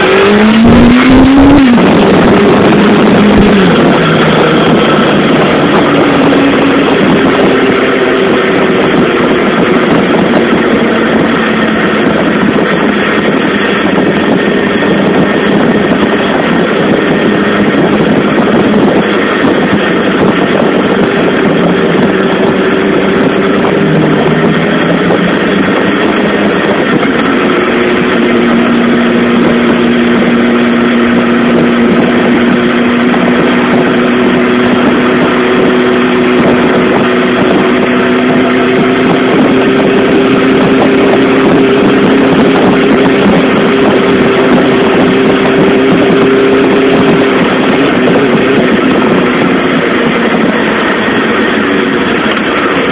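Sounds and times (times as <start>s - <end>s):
loud rushing noise: 0.0s - 52.9s
motorcycle engine running: 0.0s - 52.9s.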